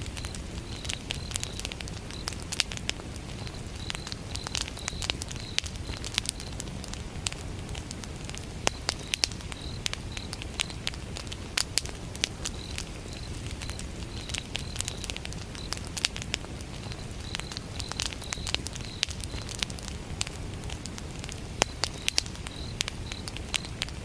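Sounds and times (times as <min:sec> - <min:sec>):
cricket chirping: 0:00.0 - 0:23.9
campfire crackling and popping: 0:00.0 - 0:24.0.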